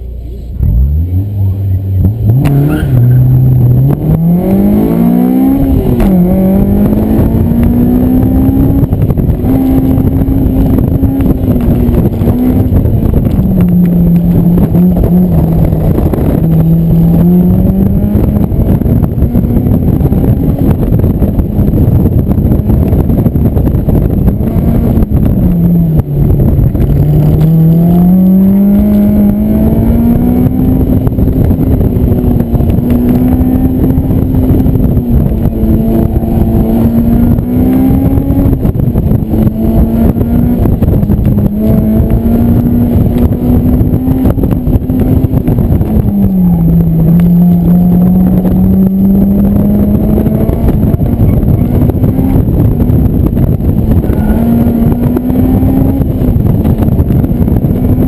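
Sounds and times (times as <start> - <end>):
car engine accelerating: 0.0 - 58.0
wind buffeting: 1.7 - 58.0.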